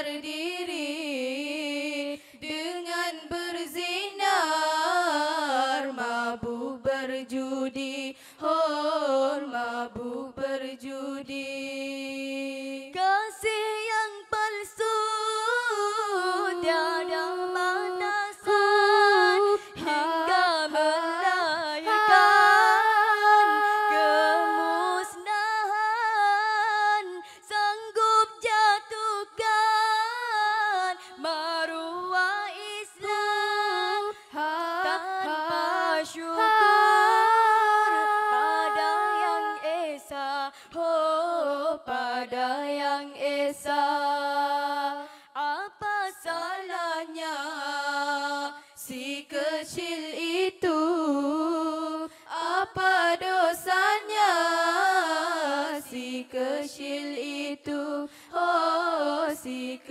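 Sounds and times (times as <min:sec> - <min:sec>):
women singing a cappella harmony: 0:00.0 - 0:59.9.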